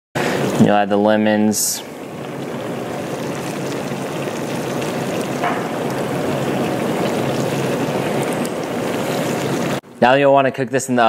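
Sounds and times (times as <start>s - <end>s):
broth boiling in a skillet: 0.2s - 9.8s.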